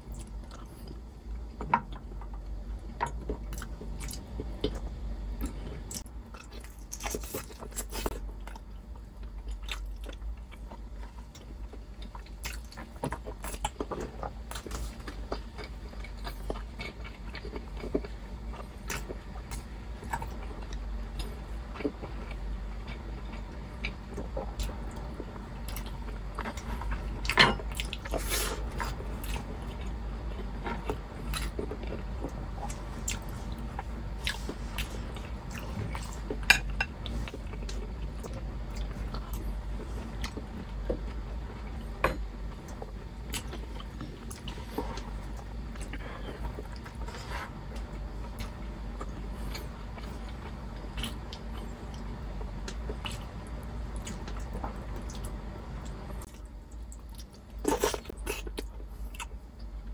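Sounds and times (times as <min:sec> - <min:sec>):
person chewing: 0:03.0 - 0:59.7.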